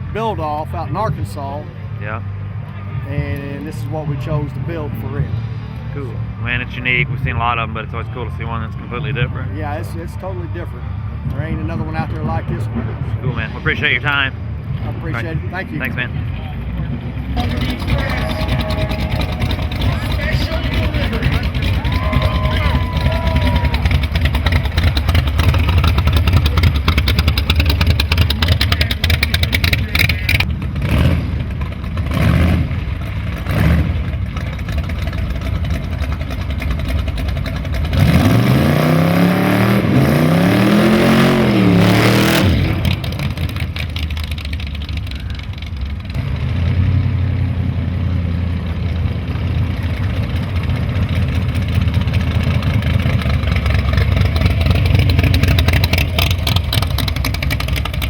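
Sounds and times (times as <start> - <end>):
vee eight engine rumbling: 0.0 - 58.0.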